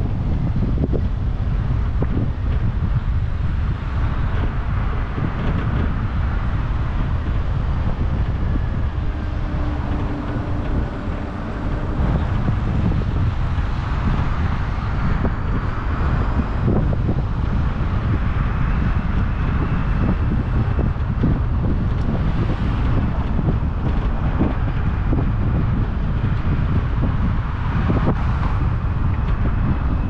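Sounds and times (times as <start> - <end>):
car road rumble: 0.0 - 30.0
wind noise: 0.0 - 30.0.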